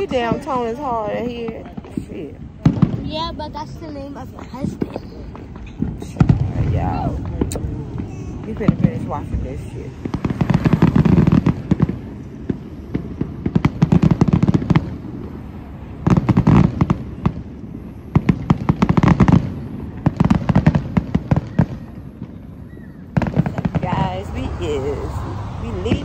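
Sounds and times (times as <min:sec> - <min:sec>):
fireworks crackling and booming: 0:00.0 - 0:26.0.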